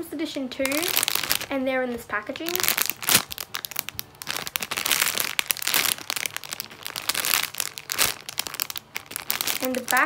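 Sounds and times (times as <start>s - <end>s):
plastic bag crinkling: 0.6s - 10.0s.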